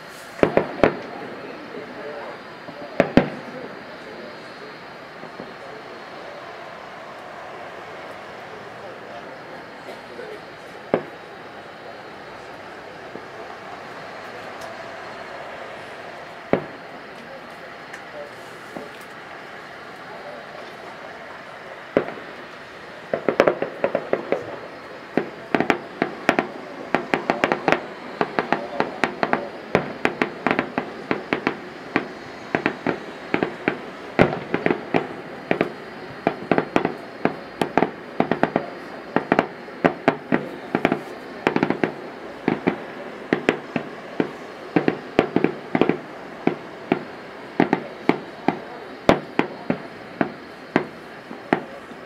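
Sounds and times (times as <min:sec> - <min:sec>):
fireworks bangs and crackling pops: 0:00.0 - 0:52.0.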